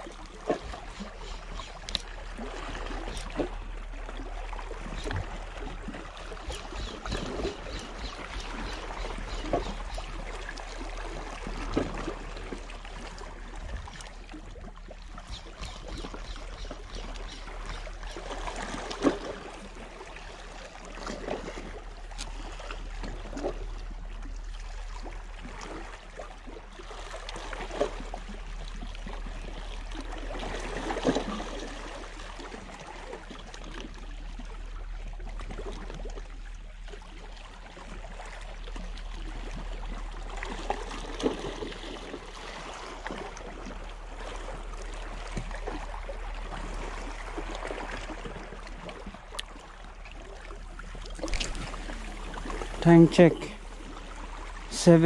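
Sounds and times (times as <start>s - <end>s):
waves lapping against rocks: 0.0s - 55.0s.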